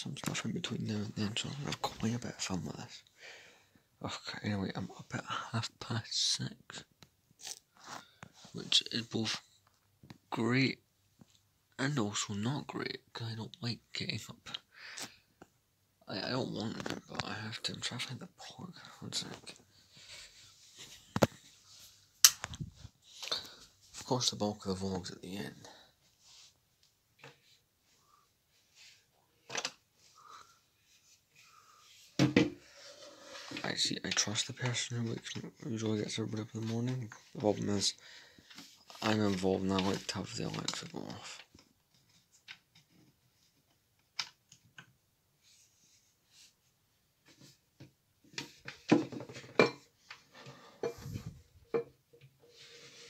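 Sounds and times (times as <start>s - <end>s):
faint rustling and handling: 0.0s - 53.0s.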